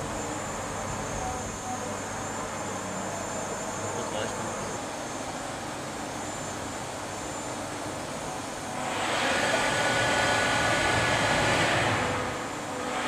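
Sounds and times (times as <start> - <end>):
machining center hum and whine: 0.0 - 13.0.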